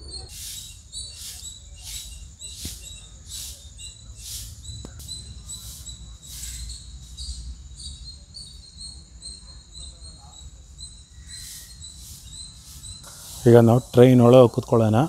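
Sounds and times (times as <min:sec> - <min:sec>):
high-pitched chirping pulses: 0:00.0 - 0:15.0.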